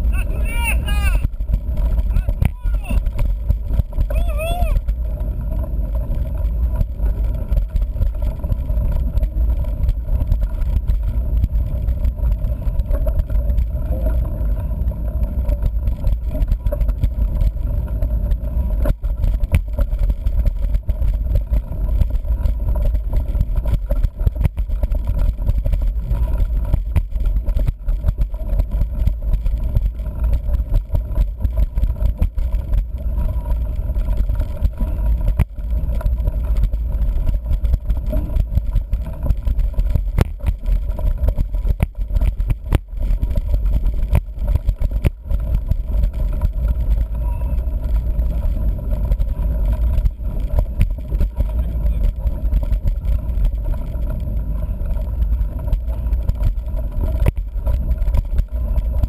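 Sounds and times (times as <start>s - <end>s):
bike tyres rumbling on dirt: 0.0s - 59.0s
bike knocks and rattles: 1.2s - 59.0s.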